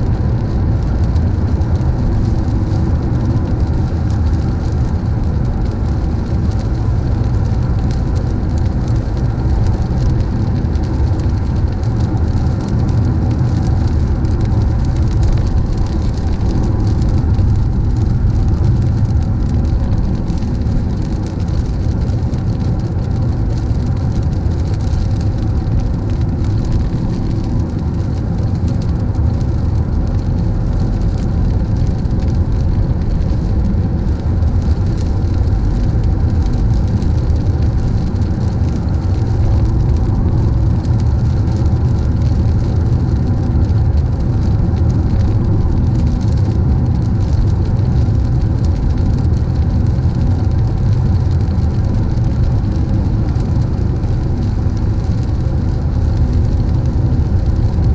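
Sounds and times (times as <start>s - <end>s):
road noise rumble: 0.0s - 57.9s.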